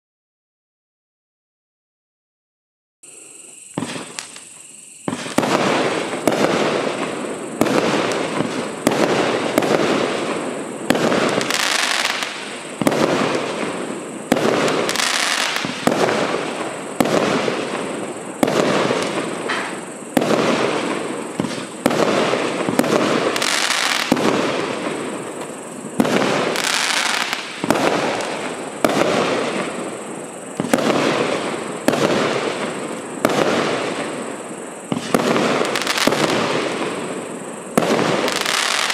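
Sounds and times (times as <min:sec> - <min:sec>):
firework shots banging: 0:03.7 - 0:04.4, 0:05.0 - 0:30.0, 0:30.6 - 0:34.2, 0:34.9 - 0:38.9.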